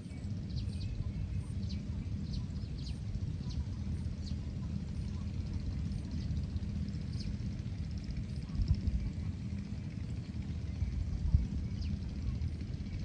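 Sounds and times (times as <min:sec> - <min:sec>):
birds chirping: 0:00.0 - 0:13.0
wind rumble on microphone: 0:00.0 - 0:13.0.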